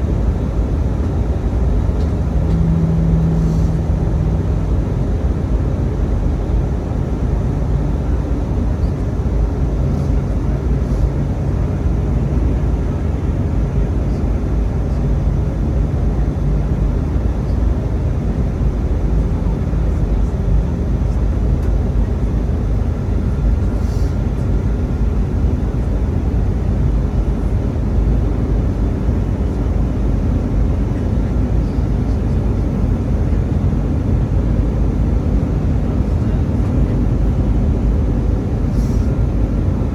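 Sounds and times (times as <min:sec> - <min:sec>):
airliner engines roaring in flight: 0:00.0 - 0:39.9.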